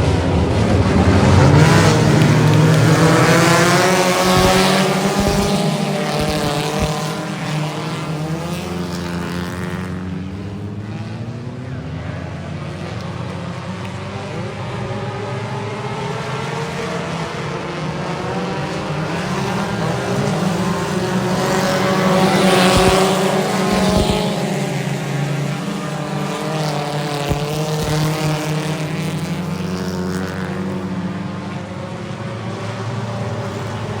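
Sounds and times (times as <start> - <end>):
race car engines: 0.0 - 34.0.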